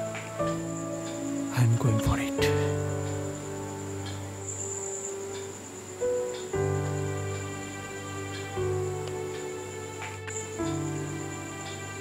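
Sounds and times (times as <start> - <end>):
film score of sustained notes: 0.0 - 12.0.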